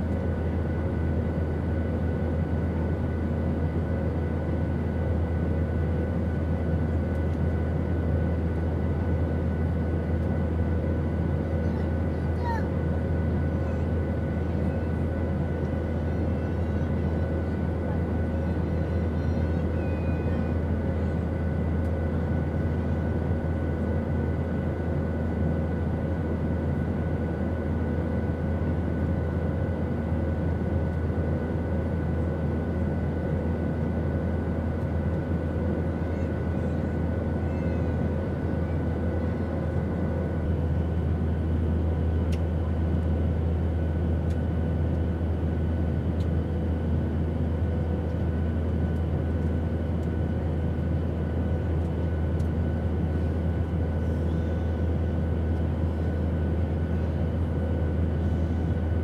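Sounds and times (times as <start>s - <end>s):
airliner engine and airflow drone: 0.0s - 59.0s
faint passenger voices: 0.0s - 59.0s.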